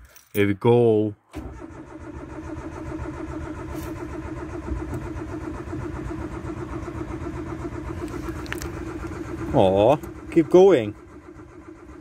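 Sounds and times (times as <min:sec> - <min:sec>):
starter motor cranking engine: 0:01.3 - 0:12.0.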